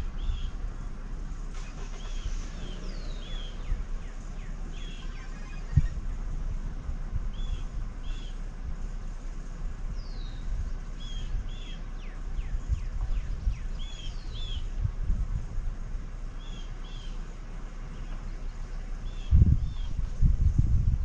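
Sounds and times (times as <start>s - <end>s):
birds chirping: 0.0s - 14.9s, 15.9s - 20.3s
low rumble: 0.0s - 21.0s.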